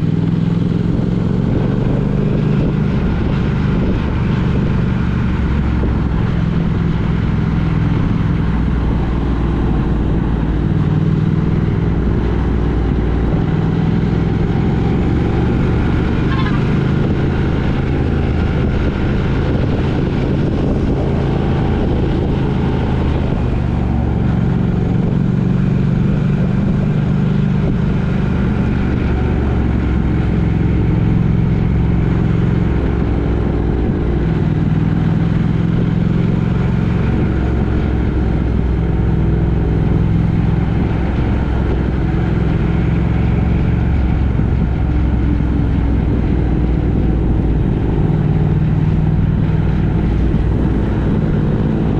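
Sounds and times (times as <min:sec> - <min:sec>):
road noise: 0:00.0 - 0:51.9
vehicle engine: 0:00.0 - 0:51.9.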